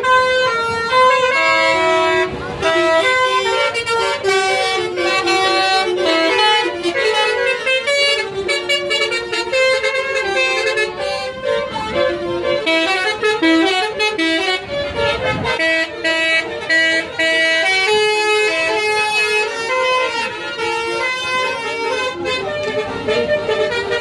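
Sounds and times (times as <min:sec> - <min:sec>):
bus musical horn melody: 0:00.0 - 0:24.0.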